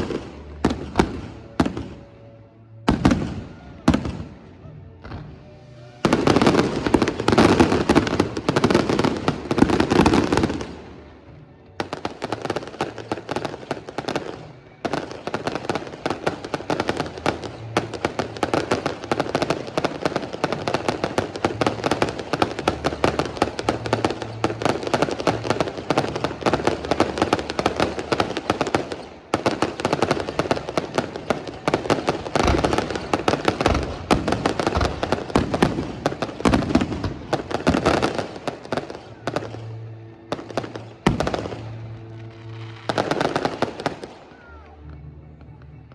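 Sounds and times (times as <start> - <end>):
rapid crackling of small fireworks: 0.0 - 45.9.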